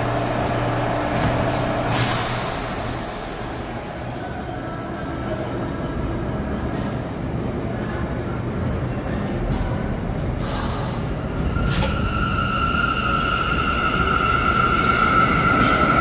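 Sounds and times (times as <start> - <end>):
subway train hum: 0.0 - 16.0.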